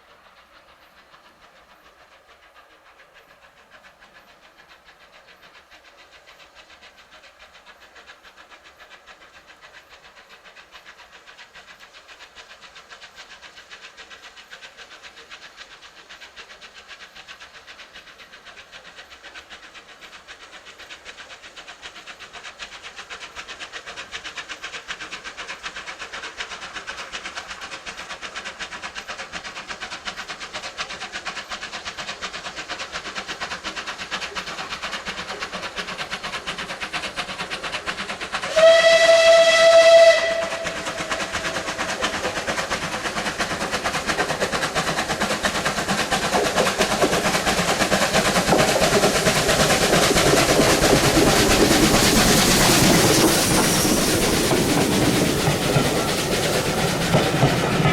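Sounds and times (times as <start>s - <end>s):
steam hissing: 0.0s - 57.9s
steam locomotive chuffing: 0.0s - 57.9s.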